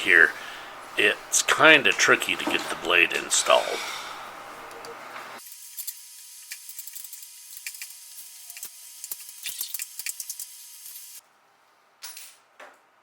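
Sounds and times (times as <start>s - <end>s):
steady hiss: 0.0s - 11.2s.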